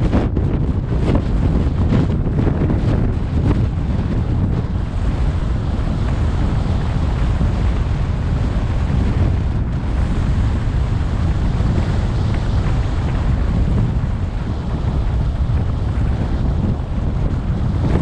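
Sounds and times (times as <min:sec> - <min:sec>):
road noise: 0:00.0 - 0:18.0
wind rush on microphone: 0:00.0 - 0:18.0.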